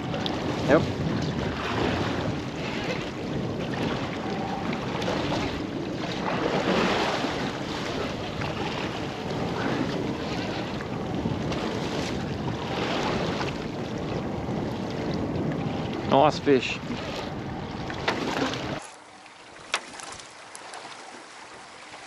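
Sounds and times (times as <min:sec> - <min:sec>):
wind buffeting microphone: 0:00.0 - 0:18.9
water washing against boat: 0:00.0 - 0:22.0.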